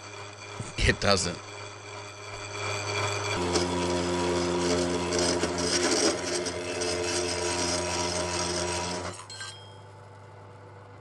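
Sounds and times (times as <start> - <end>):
milling machine hum: 0.0 - 9.4
saw grinding through steel: 0.0 - 9.7.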